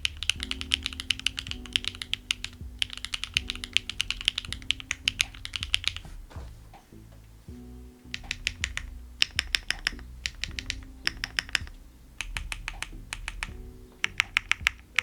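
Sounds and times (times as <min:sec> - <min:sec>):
mechanical keyboard typing: 0:00.0 - 0:06.1, 0:08.1 - 0:15.0
background music: 0:00.0 - 0:15.0.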